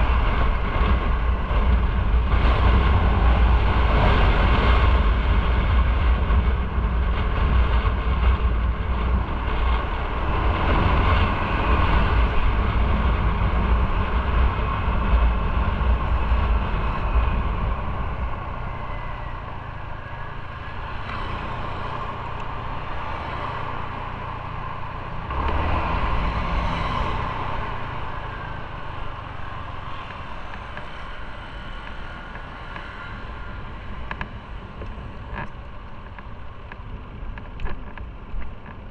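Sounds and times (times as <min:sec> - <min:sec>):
road noise: 0:00.0 - 0:38.9
wind noise: 0:00.0 - 0:38.9.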